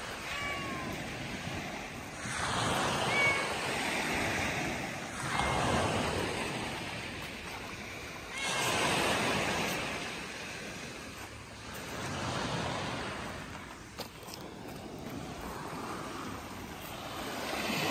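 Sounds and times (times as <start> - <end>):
waves breaking on pebble beach: 0.0 - 17.9.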